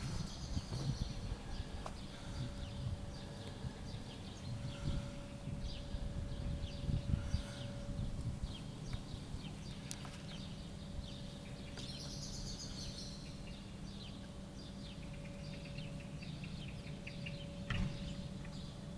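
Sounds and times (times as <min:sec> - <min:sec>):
faint steady hum: 0:00.0 - 0:18.9
small birds chirping: 0:00.0 - 0:18.9
street background rumble: 0:00.0 - 0:18.9.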